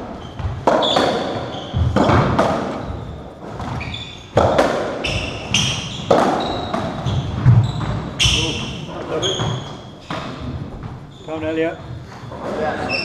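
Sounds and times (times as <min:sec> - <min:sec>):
ball hitting rackets and walls: 0:00.0 - 0:11.1
shoes squeaking on wooden floor: 0:00.0 - 0:13.0.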